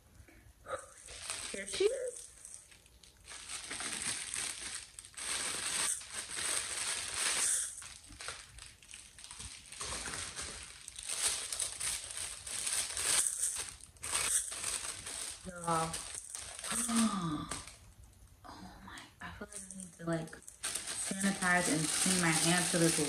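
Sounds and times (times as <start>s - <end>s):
plastic packaging crinkling: 0.7s - 17.9s, 19.6s - 23.0s.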